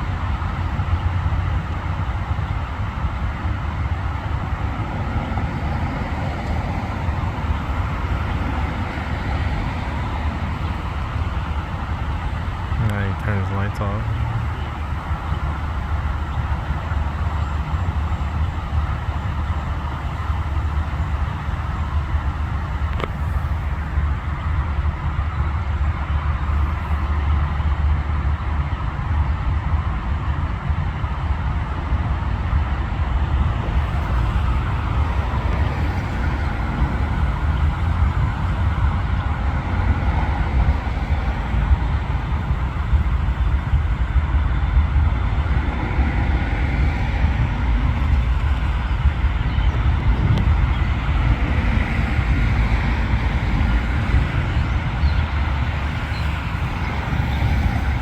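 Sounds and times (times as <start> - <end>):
freight train rumbling: 0.0 - 58.0.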